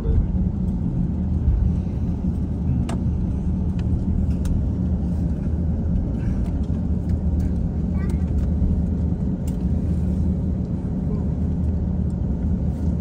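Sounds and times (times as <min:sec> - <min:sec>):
aircraft engines low rumble: 0:00.0 - 0:13.0.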